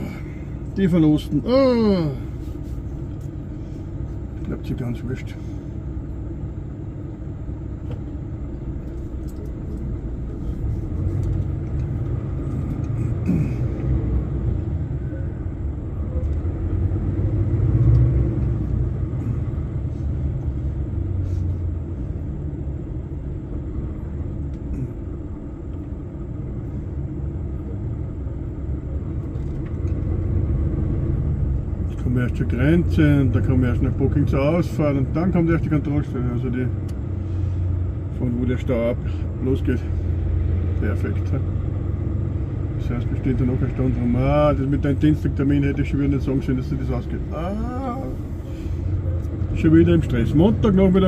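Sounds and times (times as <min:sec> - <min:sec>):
truck engine and road rumble: 0:00.0 - 0:51.0.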